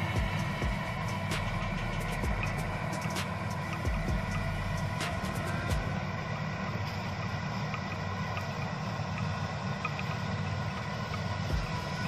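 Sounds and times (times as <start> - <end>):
combine harvester diesel drone: 0.0 - 12.0
higher machinery tones: 0.0 - 12.0.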